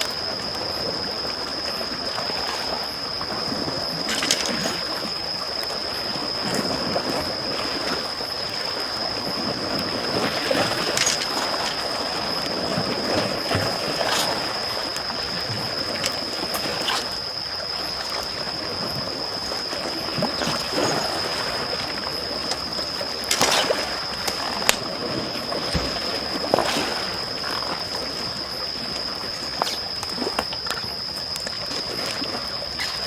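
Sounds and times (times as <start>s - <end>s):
small waves lapping: 0.0s - 33.0s.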